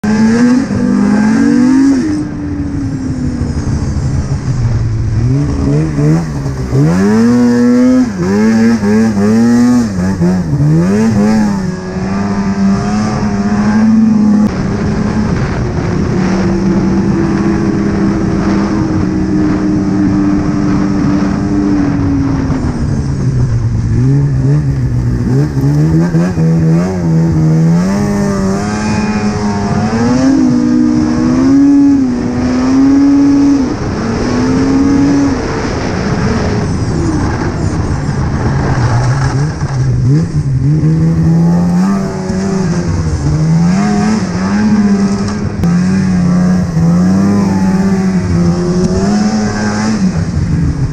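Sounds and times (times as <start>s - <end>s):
snowmobile engine revving: 0.0s - 50.9s.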